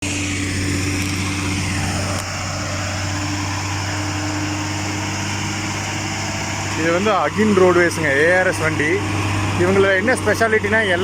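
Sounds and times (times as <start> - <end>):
heavy diesel truck engine: 0.0 - 11.0.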